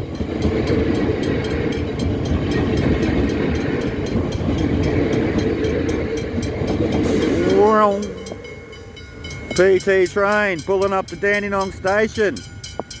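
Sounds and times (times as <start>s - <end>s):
electric train passing close by: 0.0s - 13.0s
wheels clicking on rails: 0.0s - 13.0s.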